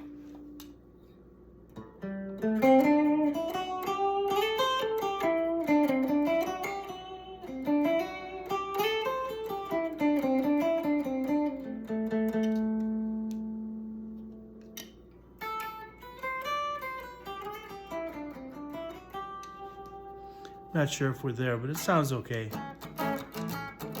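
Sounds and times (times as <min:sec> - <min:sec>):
clean electric guitar melody: 0:00.0 - 0:00.8, 0:01.7 - 0:24.0.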